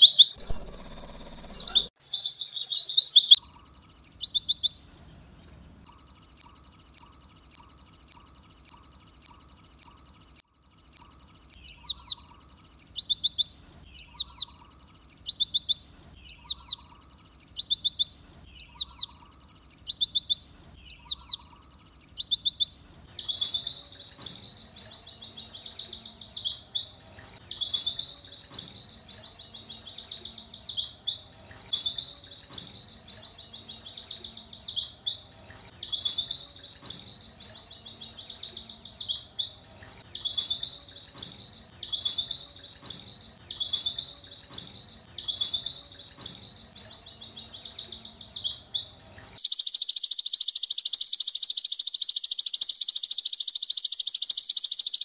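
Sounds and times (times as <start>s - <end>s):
bird trilling song: 0.0s - 55.0s.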